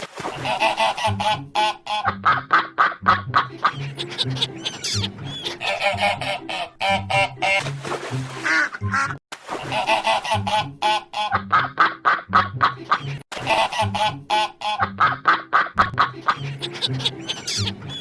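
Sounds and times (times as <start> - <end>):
ducks quacking: 0.2 - 18.0.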